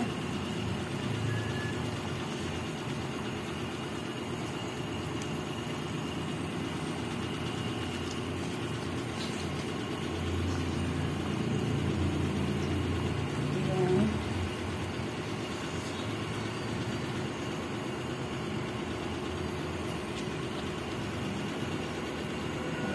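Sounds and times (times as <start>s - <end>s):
pot simmering low rumble: 0.0s - 22.9s.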